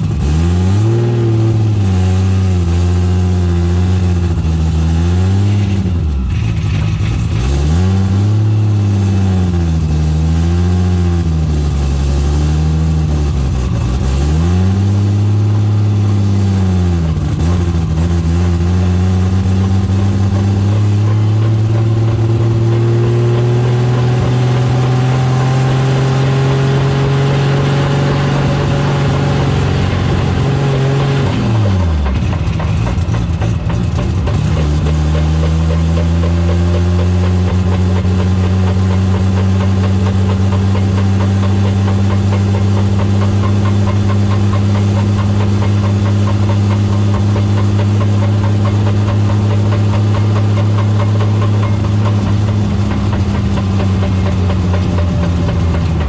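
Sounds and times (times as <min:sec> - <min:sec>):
car engine and drivetrain: 0:00.0 - 0:56.0.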